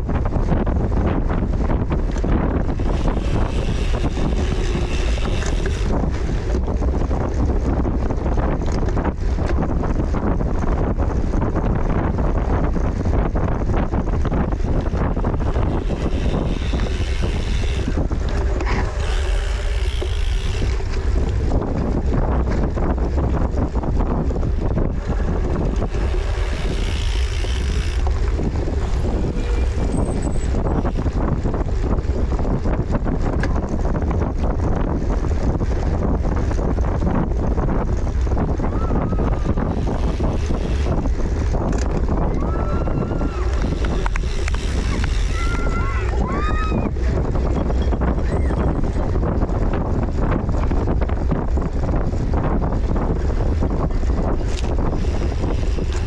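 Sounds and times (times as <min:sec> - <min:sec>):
bike rattling over rough ground: 0:00.0 - 0:56.0
wind buffeting microphone: 0:00.0 - 0:56.0.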